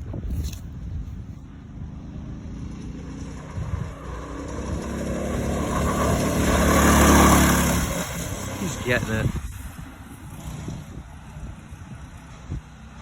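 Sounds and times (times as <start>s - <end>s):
go-kart engine at full throttle: 1.4s - 13.0s.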